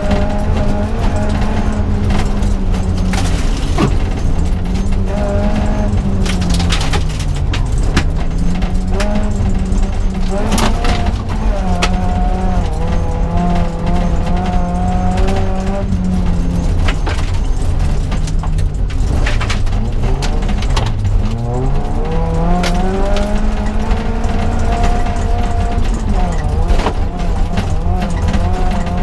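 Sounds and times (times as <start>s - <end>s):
gravel striking car underside: 0.0s - 29.0s
rally car engine at high revs: 0.0s - 29.0s.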